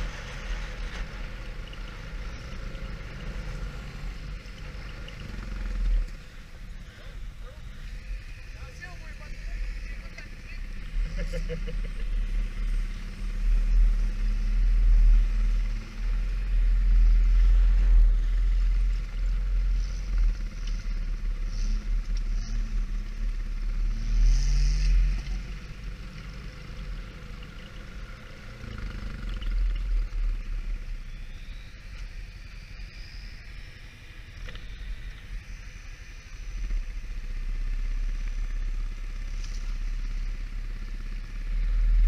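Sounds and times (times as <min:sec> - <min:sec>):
atv engine running: 0:00.0 - 0:42.0.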